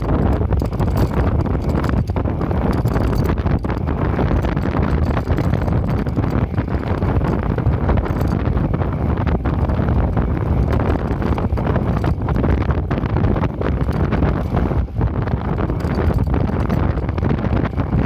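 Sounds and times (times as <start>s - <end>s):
faint rattling ticks: 0.0s - 8.7s, 9.3s - 17.8s
wind buffeting microphone: 0.0s - 18.0s.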